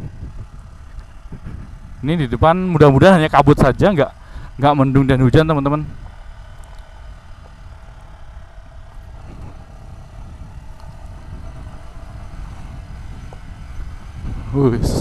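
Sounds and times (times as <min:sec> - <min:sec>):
motorcycle engine running: 0:00.0 - 0:15.0
tyres rumbling on gravel: 0:00.0 - 0:15.0
wind: 0:00.0 - 0:15.0.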